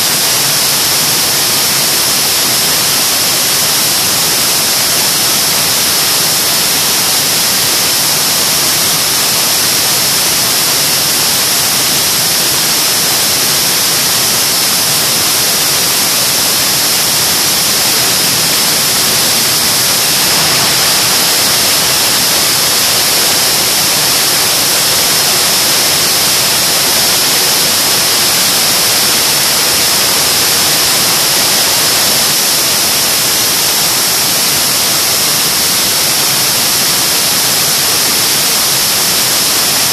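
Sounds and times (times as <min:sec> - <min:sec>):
jet engine roaring: 0:00.0 - 0:36.5.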